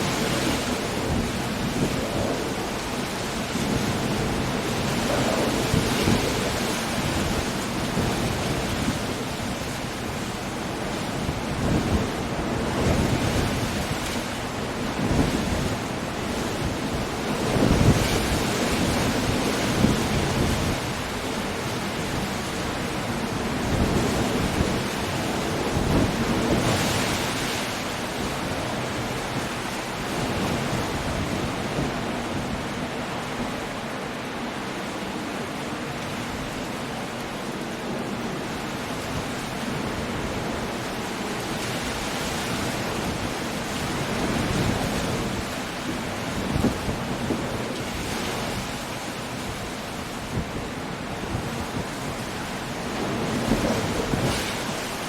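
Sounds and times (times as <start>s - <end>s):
heavy rain: 0.0s - 55.0s
sea waves breaking: 0.0s - 55.0s
wind: 0.0s - 55.0s.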